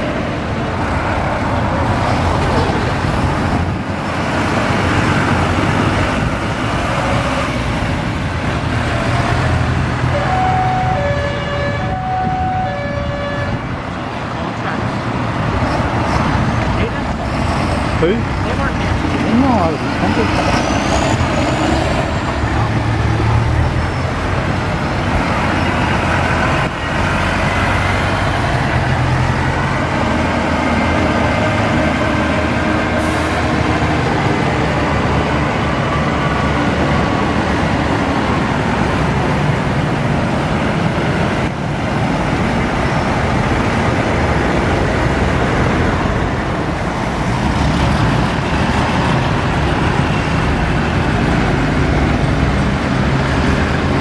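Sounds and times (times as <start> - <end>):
tractor diesel engines passing: 0.0 - 54.0.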